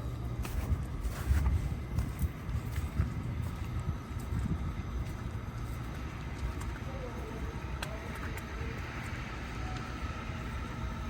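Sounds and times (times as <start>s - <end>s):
faint high hum: 0.0s - 11.0s
passing vehicles rumbling: 0.0s - 11.0s.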